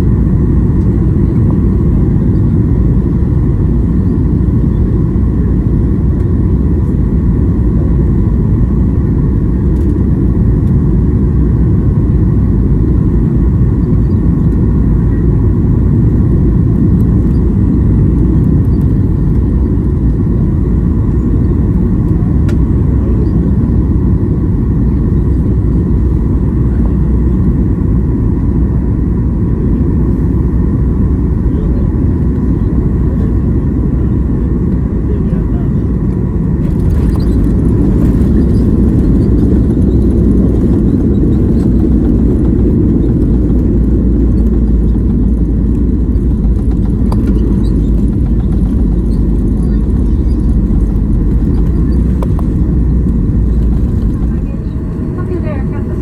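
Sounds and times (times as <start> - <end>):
airplane cabin engine rumble: 0.0 - 56.0
faint whine: 0.0 - 56.0.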